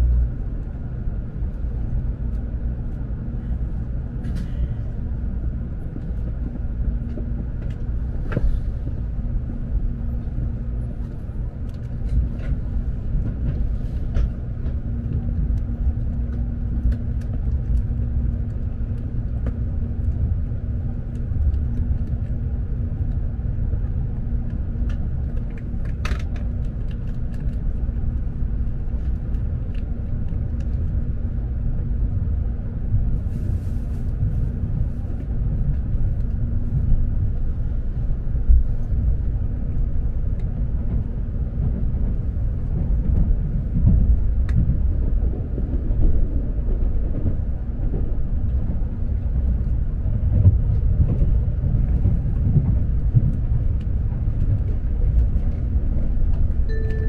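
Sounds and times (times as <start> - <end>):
train hum: 0.0 - 57.0
train running rumble: 0.0 - 57.0.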